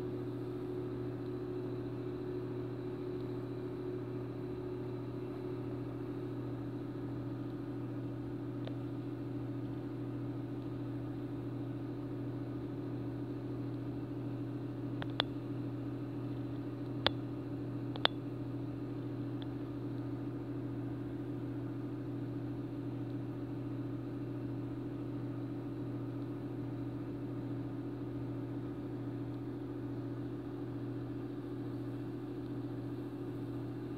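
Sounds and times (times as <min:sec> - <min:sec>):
aquarium pumps humming: 0:00.0 - 0:33.9.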